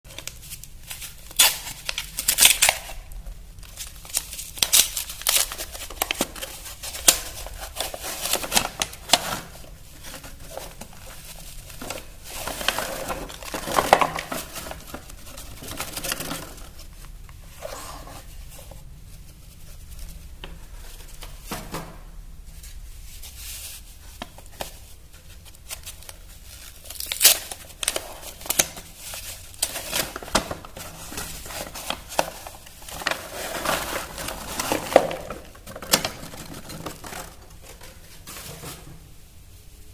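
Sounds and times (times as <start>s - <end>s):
wrapping torn and crinkled: 0.1s - 21.6s, 22.5s - 38.3s.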